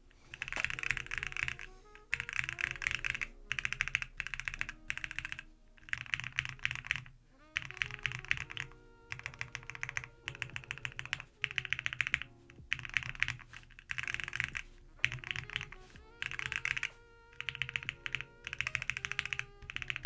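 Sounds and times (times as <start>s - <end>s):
soft background music: 0.0s - 20.0s
mechanical keyboard typing: 0.3s - 20.0s.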